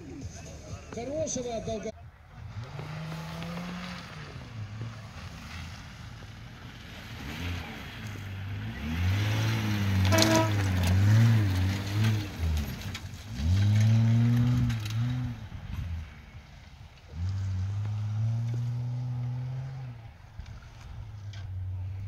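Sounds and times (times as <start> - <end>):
engine revving: 2.4 - 22.0.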